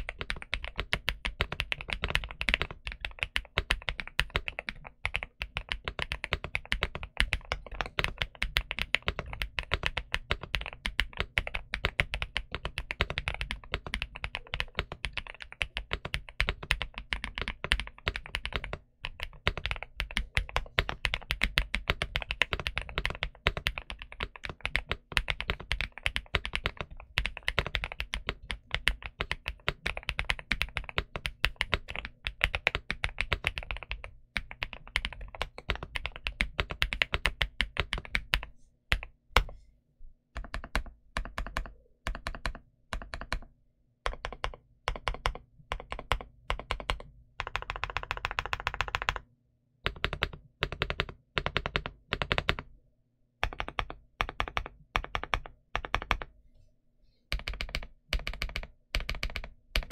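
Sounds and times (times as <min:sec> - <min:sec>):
mechanical keyboard typing: 0:00.0 - 0:39.6, 0:40.4 - 0:52.7, 0:53.4 - 0:56.3, 0:57.3 - 0:59.9.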